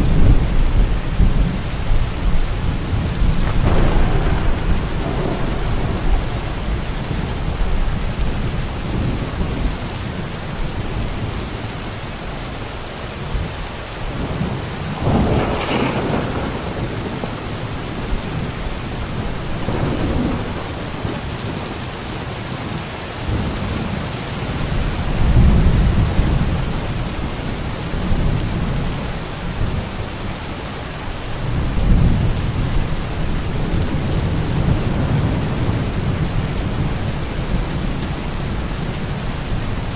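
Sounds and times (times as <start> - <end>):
thunder rumbling: 0.0 - 11.9, 13.3 - 30.3, 31.3 - 39.9
steady rain falling: 0.0 - 39.9.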